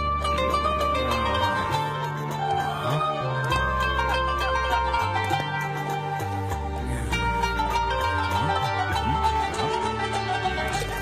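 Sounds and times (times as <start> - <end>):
plucked string music: 0.0 - 11.0
steady bass line: 0.0 - 11.0.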